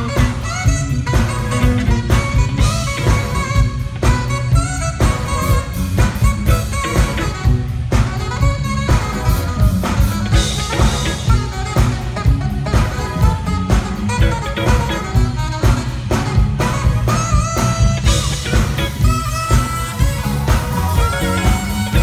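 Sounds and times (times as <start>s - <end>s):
drum kit steady beat: 0.0s - 22.0s
electric bass: 0.0s - 22.0s
saxophone melody: 0.0s - 22.0s.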